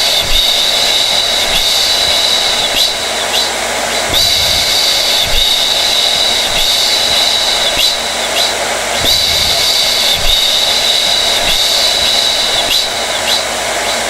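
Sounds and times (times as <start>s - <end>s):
blow dryer running: 0.0s - 14.0s.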